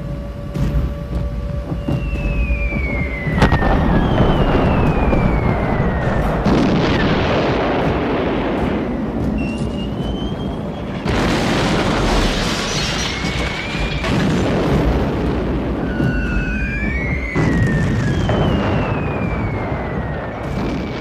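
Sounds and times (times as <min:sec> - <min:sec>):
bomb explosions booming: 0:00.0 - 0:21.0
heavy rumble: 0:00.0 - 0:21.0.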